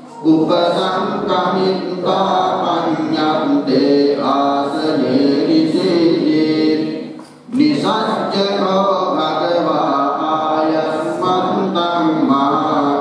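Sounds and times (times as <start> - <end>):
monks chanting through microphone: 0.0 - 13.0.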